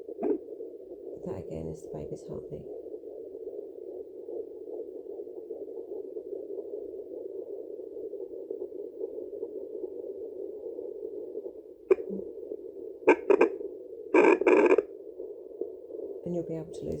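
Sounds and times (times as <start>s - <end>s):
whooshing fetal heartbeat: 0.0s - 1.3s, 2.6s - 16.2s.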